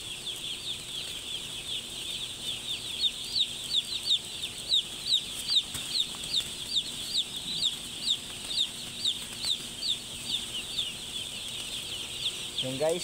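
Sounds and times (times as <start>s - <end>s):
chicks peeping: 0.0s - 13.0s
loud falling chick peeps: 0.2s - 12.7s.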